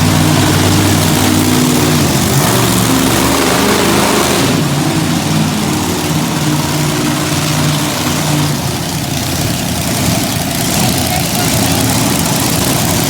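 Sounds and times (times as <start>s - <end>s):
broad roar: 0.0s - 13.0s
monster truck engine running: 0.0s - 13.0s.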